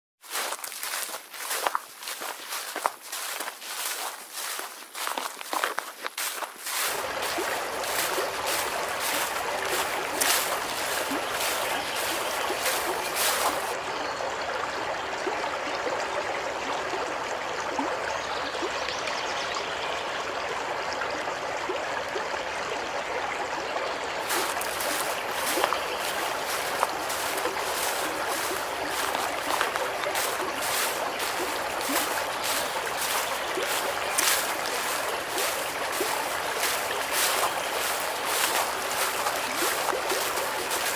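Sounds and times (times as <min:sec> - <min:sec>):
small water splashes: 0:00.2 - 0:18.8, 0:23.6 - 0:40.9
stream water trickling: 0:00.2 - 0:40.9.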